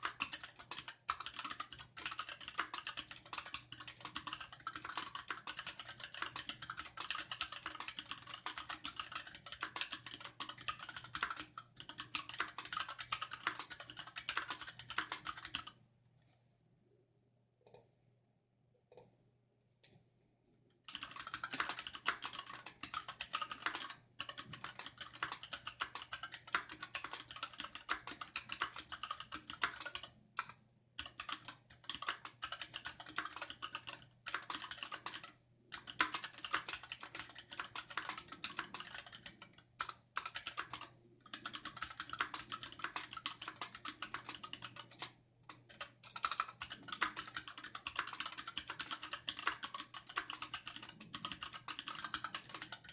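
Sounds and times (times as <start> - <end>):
mechanical keyboard typing: 0.0 - 15.8, 20.9 - 52.9.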